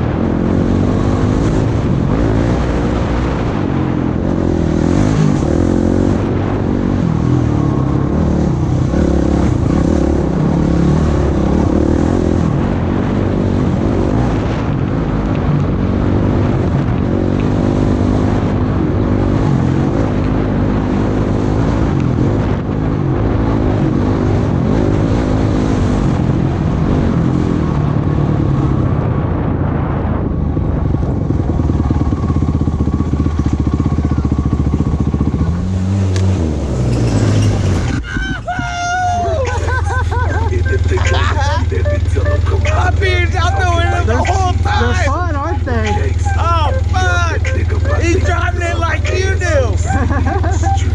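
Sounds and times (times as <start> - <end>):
off-road vehicle engine revving: 0.0 - 29.2, 30.8 - 50.9
wind and trail noise: 0.0 - 50.9.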